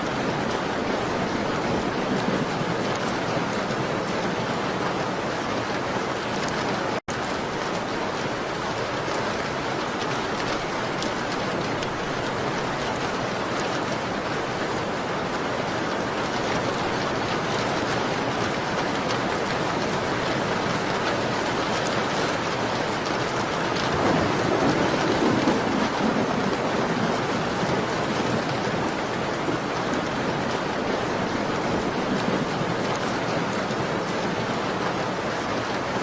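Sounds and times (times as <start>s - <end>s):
rain pattering against a window: 0.0s - 36.0s.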